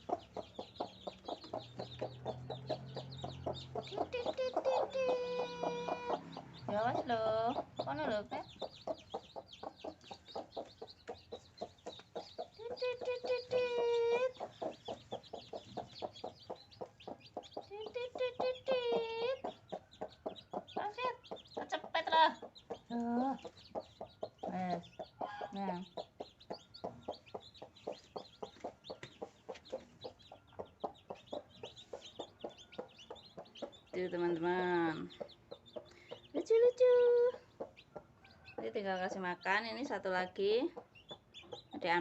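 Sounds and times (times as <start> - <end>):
chicks peeping: 0.0 - 42.0
hen clucking: 0.0 - 42.0.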